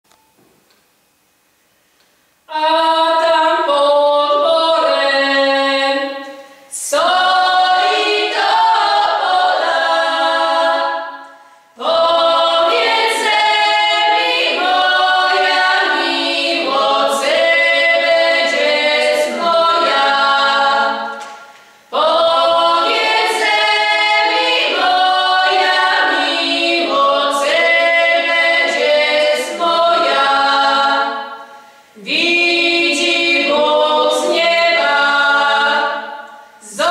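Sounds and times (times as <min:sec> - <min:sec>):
women singing a cappella: 0:02.5 - 0:36.9.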